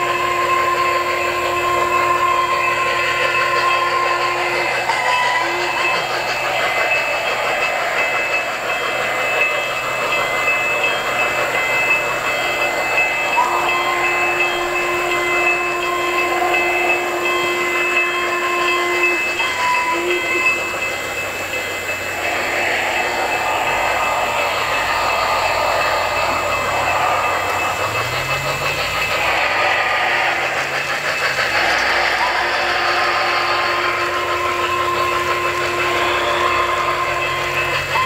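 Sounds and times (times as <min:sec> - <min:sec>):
model steam locomotive whistle: 0:00.0 - 0:38.0
model train wheel clatter: 0:00.0 - 0:38.0.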